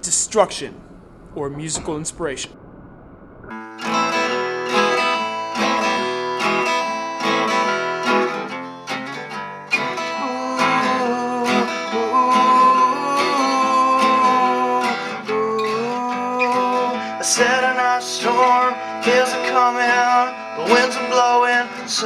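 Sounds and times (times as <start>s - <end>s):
acoustic guitar strumming: 3.5s - 22.0s.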